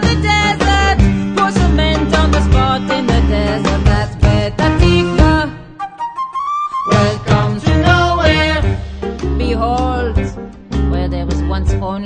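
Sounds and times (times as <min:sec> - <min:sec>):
band playing show tune: 0:00.0 - 0:05.5, 0:06.8 - 0:11.8.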